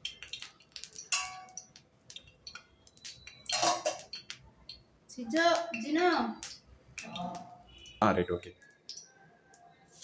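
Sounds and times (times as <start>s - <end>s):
fish frying crackling and popping: 0.0s - 10.0s.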